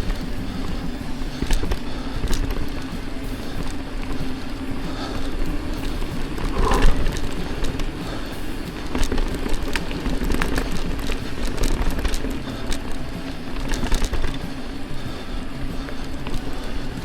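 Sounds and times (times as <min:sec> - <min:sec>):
bike clicks and rattles: 0:00.0 - 0:17.0
bike tyres rolling on dirt: 0:00.0 - 0:17.0
wind rumbling on microphone: 0:00.0 - 0:17.0.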